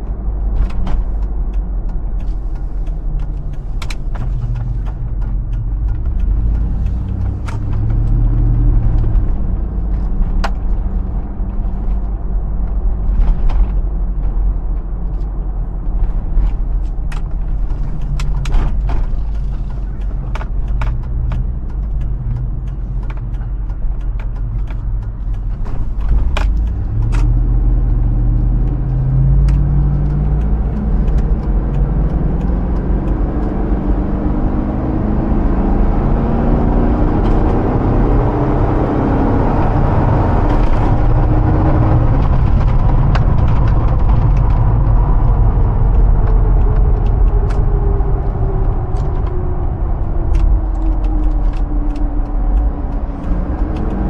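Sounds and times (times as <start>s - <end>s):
engine rumble accelerating: 0.0s - 54.0s
road noise: 0.0s - 54.0s.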